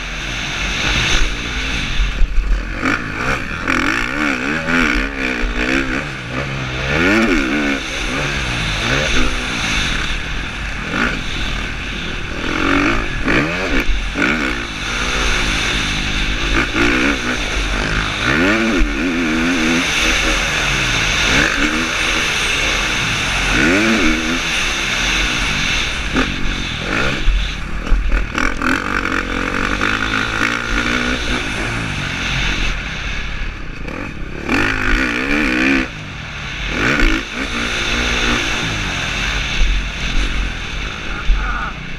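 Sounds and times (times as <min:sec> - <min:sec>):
motocross engine revving hard: 0:00.0 - 0:41.9
wind rushing across microphone: 0:00.0 - 0:41.9.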